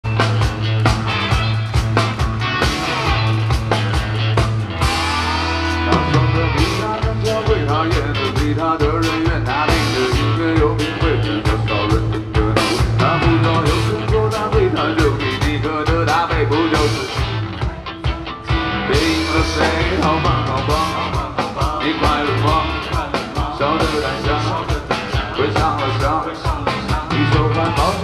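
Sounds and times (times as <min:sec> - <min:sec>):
bass line: 0:00.0 - 0:28.0
electric guitar: 0:00.0 - 0:28.0
drum beat: 0:00.1 - 0:28.0.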